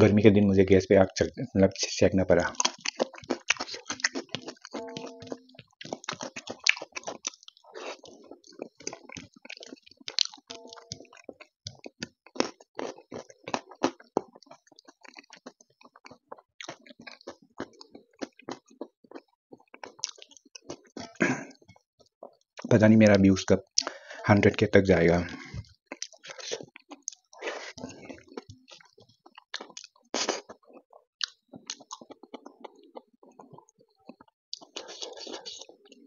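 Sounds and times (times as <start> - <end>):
wet mouth clicks chewing: 2.5 - 22.7, 25.9 - 36.0.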